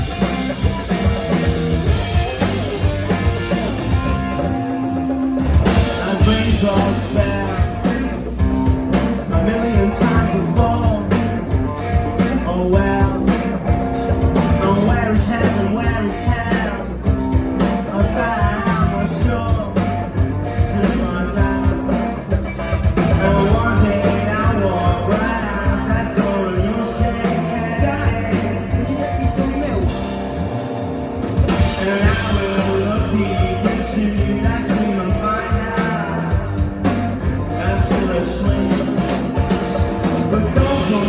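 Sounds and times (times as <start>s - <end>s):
drum kit steady beat: 0.0s - 30.4s, 31.1s - 41.0s
rock band playing live: 0.0s - 41.0s.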